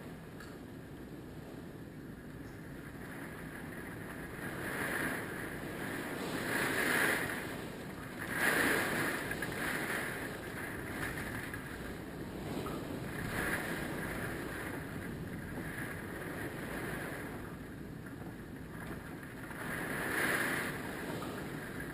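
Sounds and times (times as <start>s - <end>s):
strong wind gusts rushing: 0.0s - 21.9s
wind buffeting microphone: 0.0s - 21.9s.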